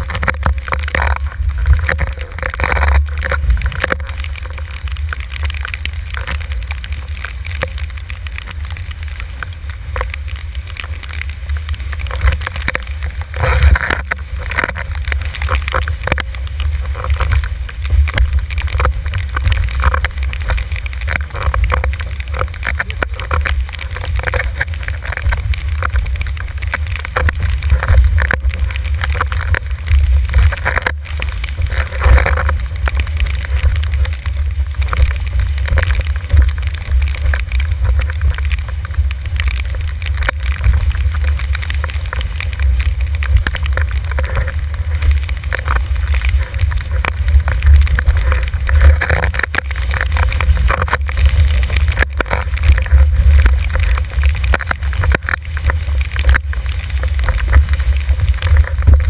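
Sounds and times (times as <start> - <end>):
board slapping through choppy water: 0.0 - 59.0.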